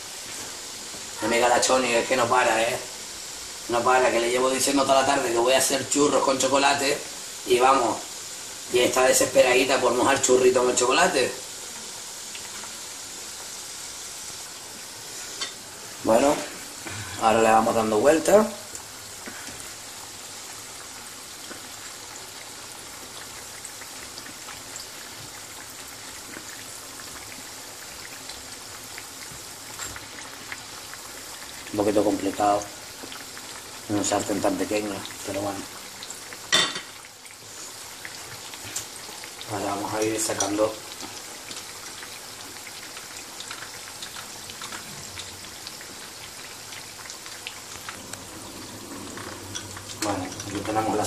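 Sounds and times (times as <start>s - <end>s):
deep-frying in hot oil sizzle: 0.0s - 51.0s.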